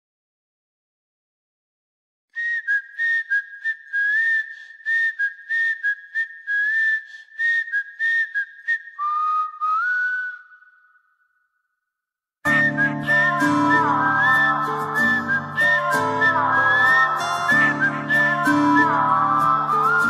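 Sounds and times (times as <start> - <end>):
whistled tune: 2.4 - 11.6, 12.5 - 20.0.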